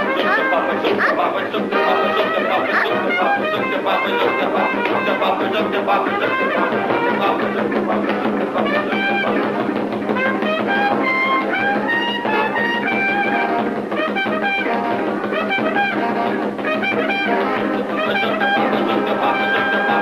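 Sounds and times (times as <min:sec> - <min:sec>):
hot jazz band: 0:00.0 - 0:20.0
trumpet: 0:00.0 - 0:20.0.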